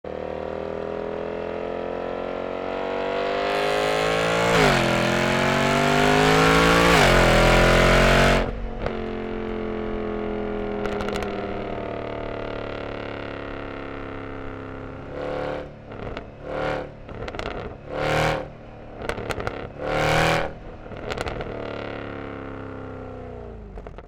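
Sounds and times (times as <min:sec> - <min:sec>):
car engine accelerating: 0:00.1 - 0:24.0.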